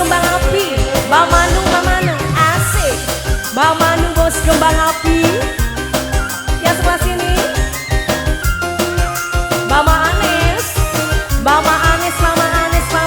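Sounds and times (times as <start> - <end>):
live band music: 0.0 - 13.0
steady drum beat: 0.0 - 13.0.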